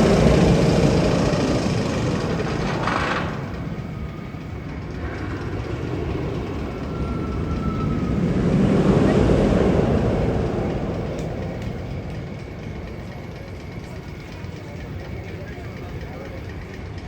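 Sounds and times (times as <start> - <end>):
roller coaster rumbling on track: 0.0 - 17.0.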